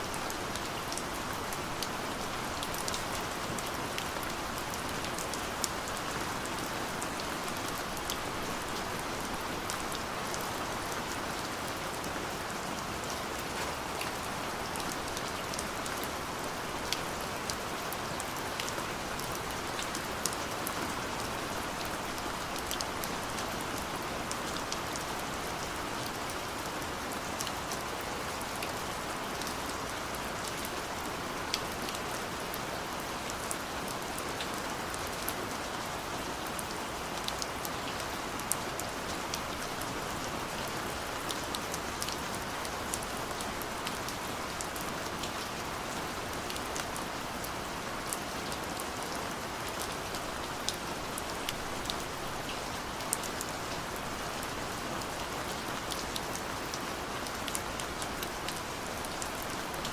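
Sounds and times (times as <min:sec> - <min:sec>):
steady rain: 0:00.0 - 0:59.9
raindrops ticking on a surface: 0:00.1 - 0:59.9.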